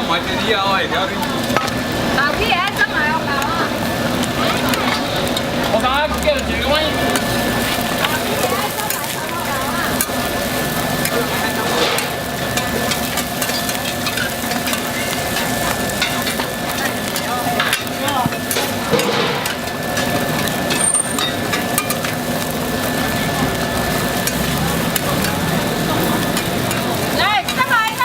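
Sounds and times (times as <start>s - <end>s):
busy voices: 0.0s - 28.0s
food sizzling in a pan: 0.0s - 28.0s
cooking utensils clicking and scraping: 0.1s - 28.0s.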